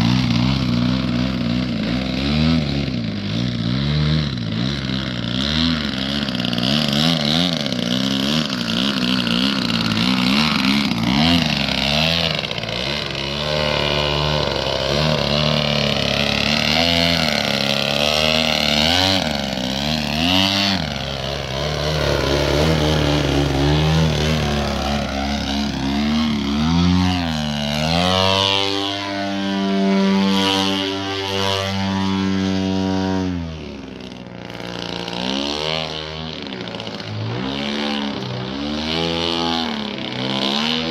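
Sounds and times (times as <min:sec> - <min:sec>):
model plane piston engine: 0:00.0 - 0:40.9.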